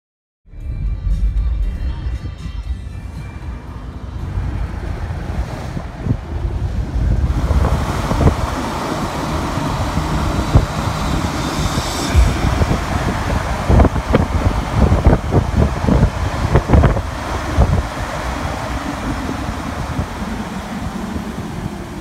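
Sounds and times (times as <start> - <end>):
road and engine rumble: 0.5 - 22.0
gusting thumps: 3.9 - 22.0
wind buffeting microphone: 3.9 - 22.0.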